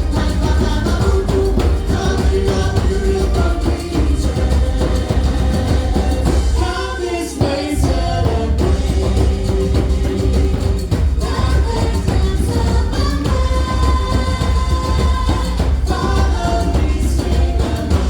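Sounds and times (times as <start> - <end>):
latin pop music with heavy beat: 0.0 - 18.0
person singing: 0.0 - 18.0.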